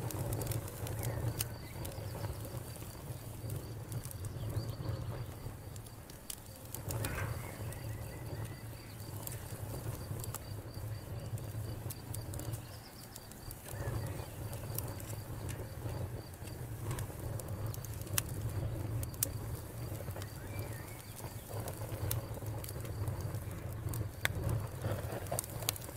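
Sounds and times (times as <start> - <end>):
wood campfire crackling: 0.0 - 25.9.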